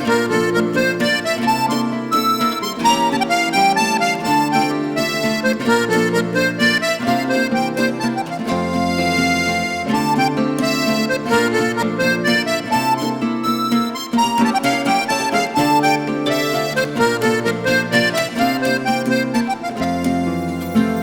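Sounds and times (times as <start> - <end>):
instrumental background music: 0.0 - 21.0.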